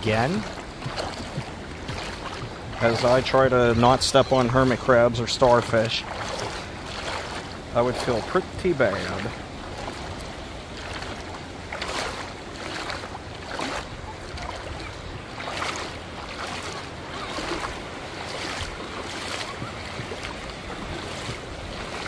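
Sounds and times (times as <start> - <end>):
footsteps sloshing through water: 0.0 - 22.0
surf: 0.0 - 22.0
wind: 0.0 - 22.0.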